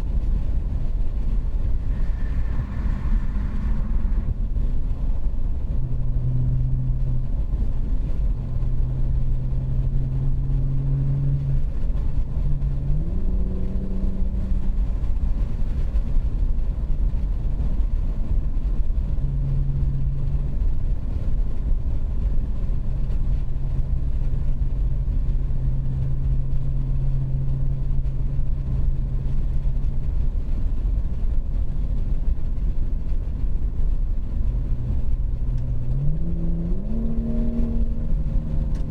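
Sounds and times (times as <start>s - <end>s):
car exhaust drone: 0.0s - 38.9s
road rumble: 0.0s - 38.9s.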